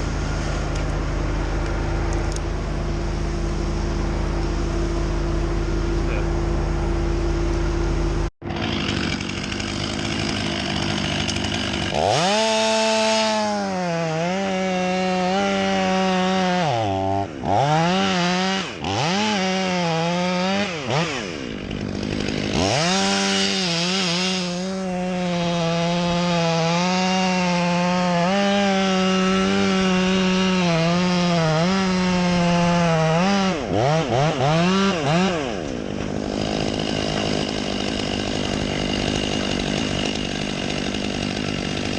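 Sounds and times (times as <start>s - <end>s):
chainsaw running: 0.0s - 41.9s.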